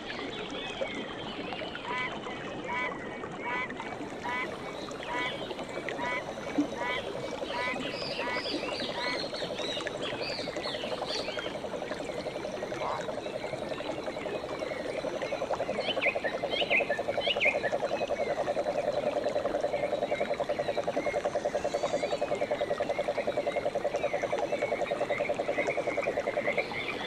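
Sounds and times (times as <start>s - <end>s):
frogs trilling in chorus: 4.2s - 27.0s.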